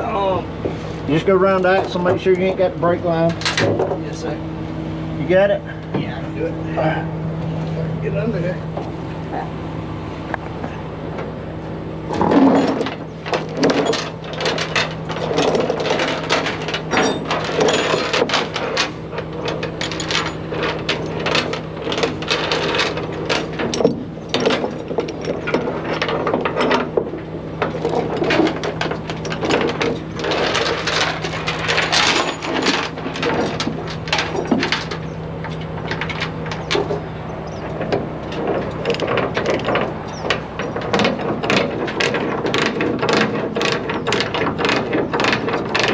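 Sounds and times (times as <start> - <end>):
tow chains clinking and rattling: 1.0 - 4.4, 12.1 - 45.9.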